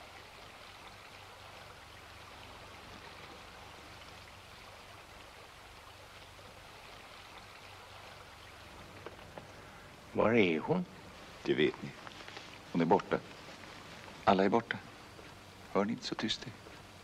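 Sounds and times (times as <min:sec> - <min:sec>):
faint film soundtrack hiss: 0:00.0 - 0:17.0.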